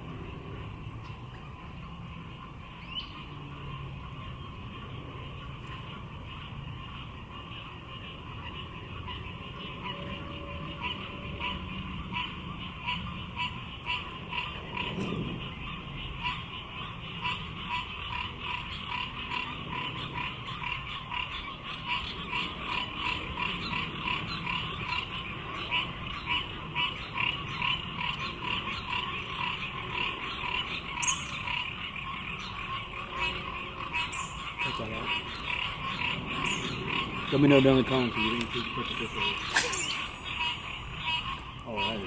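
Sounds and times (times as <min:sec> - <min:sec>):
frogs calling: 0:00.0 - 0:42.0.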